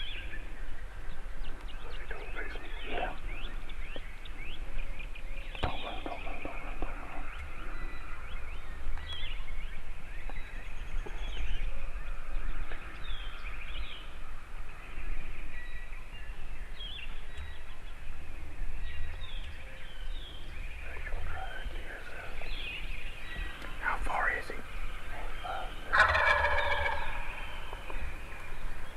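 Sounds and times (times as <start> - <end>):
low microphone rumble: 0.0 - 28.9
small birds chirping: 0.0 - 28.9.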